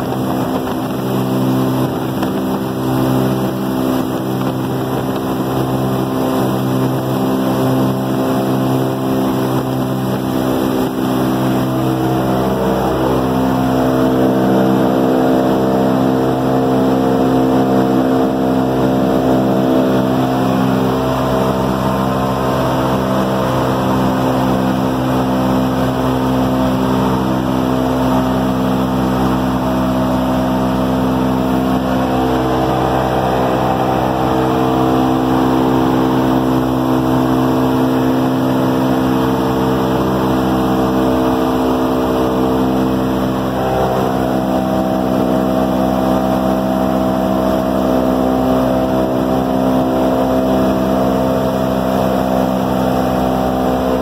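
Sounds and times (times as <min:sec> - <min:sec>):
aircraft engines droning: 0:00.0 - 0:54.0.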